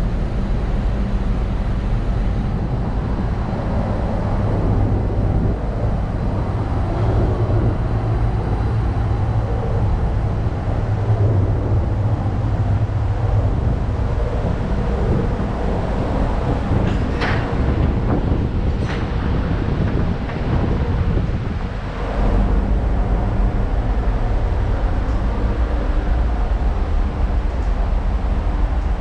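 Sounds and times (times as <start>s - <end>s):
engine-room machinery drone: 0.0s - 29.0s.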